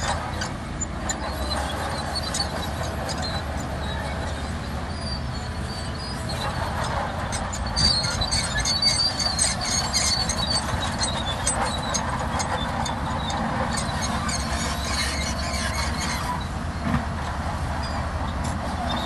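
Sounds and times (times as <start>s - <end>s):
diesel engine rumbling: 0.0s - 19.0s
steel tracks squealing and clanking: 0.0s - 19.0s.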